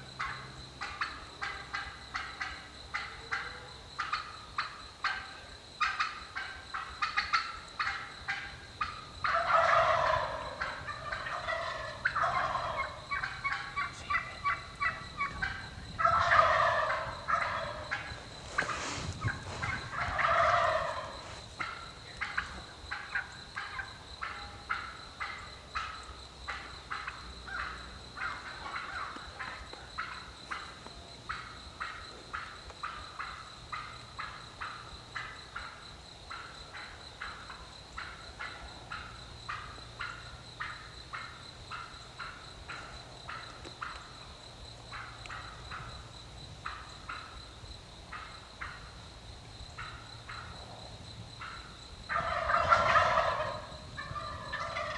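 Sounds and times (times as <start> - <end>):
wild turkeys calling: 0.2 - 47.4, 48.1 - 49.0, 49.7 - 50.8, 51.4 - 54.9.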